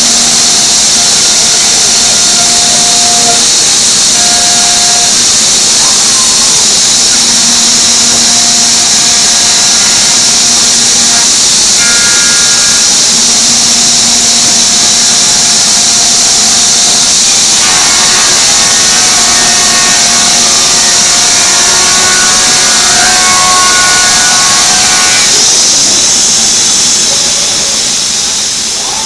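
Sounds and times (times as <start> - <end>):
router bit cutting wood: 0.0 - 29.0.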